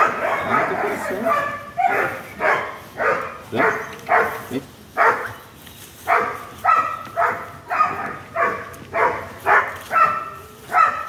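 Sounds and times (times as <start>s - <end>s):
dog barking: 0.0s - 5.4s, 6.1s - 11.0s.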